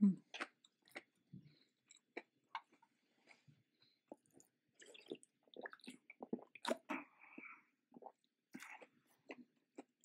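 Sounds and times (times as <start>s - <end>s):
chewing crispy food: 0.2s - 10.0s.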